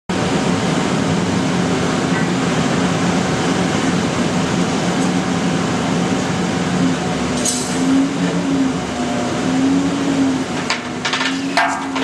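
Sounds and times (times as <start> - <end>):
rolling mill mechanical drone: 0.1 - 12.0.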